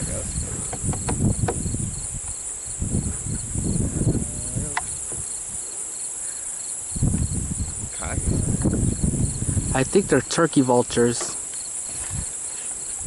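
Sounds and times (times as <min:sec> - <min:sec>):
wind on microphone: 0:00.0 - 0:05.8, 0:06.8 - 0:11.1, 0:11.8 - 0:13.0
insect chirping: 0:00.0 - 0:13.0
insects buzzing: 0:00.0 - 0:13.0.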